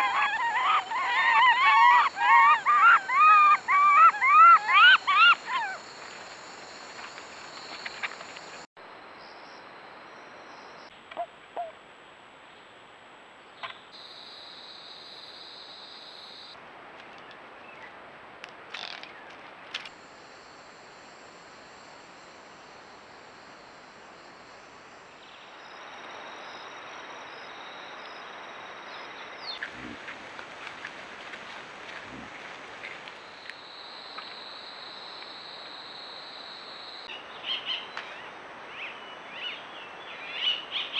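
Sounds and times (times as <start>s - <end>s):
faint forest ambience: 0.0s - 40.9s
steady recording hiss: 5.8s - 40.9s.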